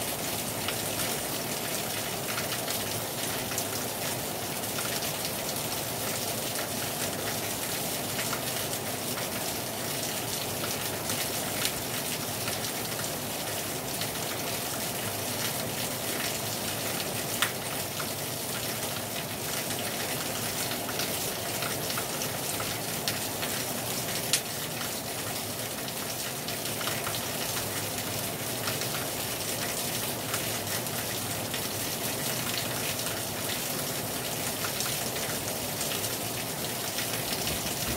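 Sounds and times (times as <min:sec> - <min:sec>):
heavy rain on a terrace: 0:00.0 - 0:37.9.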